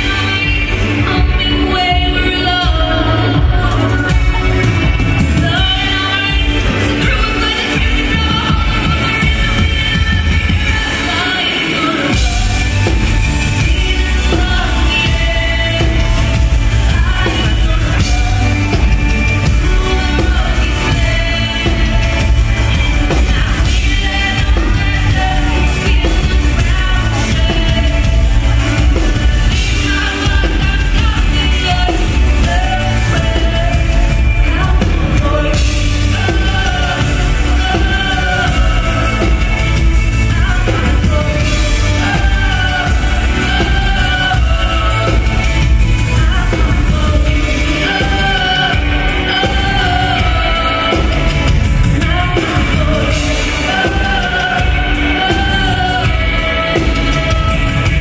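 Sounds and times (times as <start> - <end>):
drums: 0.0 - 58.0
electric guitar: 0.0 - 58.0
heavy bass: 0.0 - 58.0
keyboards: 0.0 - 58.0
woman singing lead: 0.0 - 58.0.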